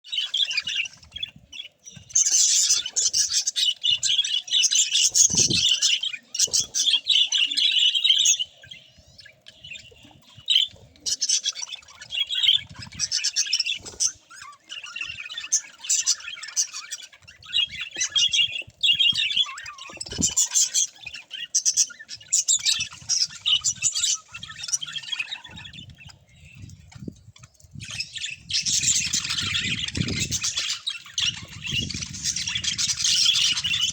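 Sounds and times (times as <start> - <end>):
budgerigars chattering: 0.1 - 26.7, 27.8 - 33.9.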